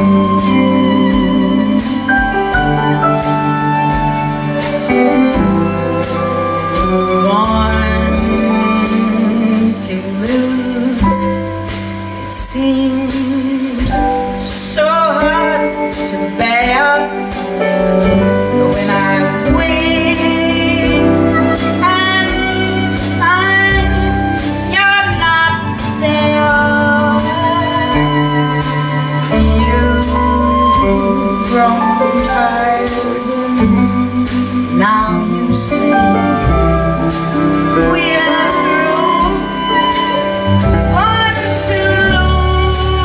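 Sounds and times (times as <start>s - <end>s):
live band playing slow ballad: 0.0s - 43.0s
woman singing: 0.0s - 43.0s.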